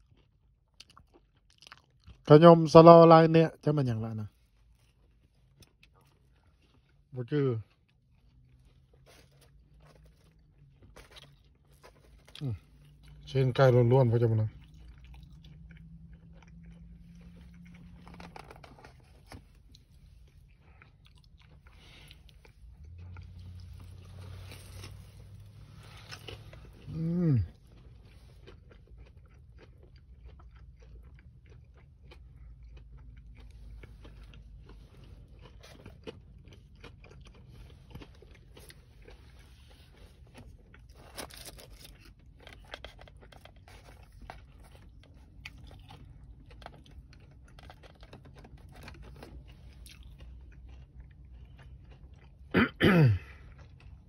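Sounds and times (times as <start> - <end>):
crunchy chewing: 0.0 - 2.3, 4.3 - 54.0.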